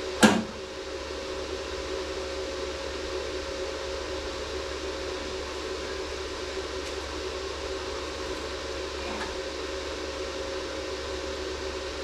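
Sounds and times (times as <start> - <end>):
fan running: 0.0 - 12.0.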